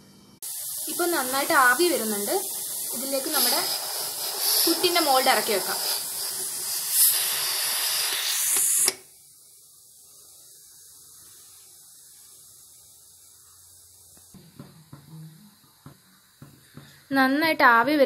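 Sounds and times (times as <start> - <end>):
steam hissing from pressure cooker: 0.4 - 17.9.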